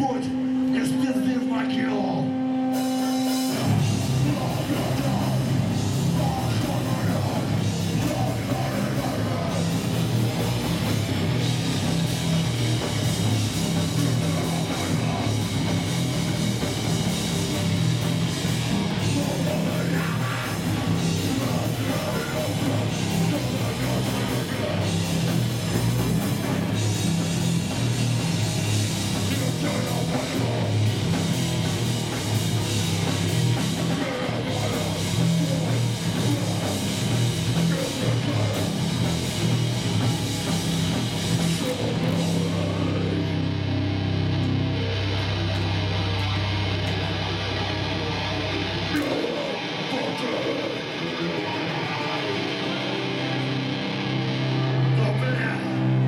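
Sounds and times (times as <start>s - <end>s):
bass guitar: 0.0s - 56.0s
loud guitars: 0.0s - 56.0s
drum kit: 2.7s - 49.8s.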